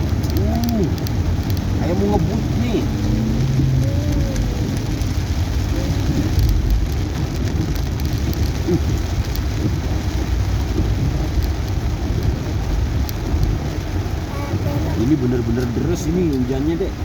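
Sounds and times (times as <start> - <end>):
heavy rain drumming on car: 0.0 - 17.0
low road rumble: 0.0 - 17.0.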